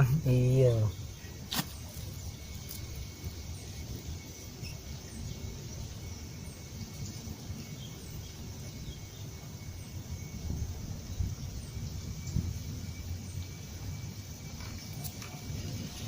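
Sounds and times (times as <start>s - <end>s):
insect drone: 0.0s - 16.0s.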